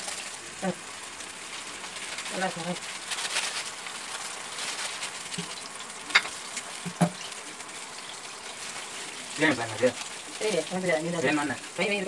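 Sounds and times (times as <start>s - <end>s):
water boiling in a pan: 0.0s - 12.0s.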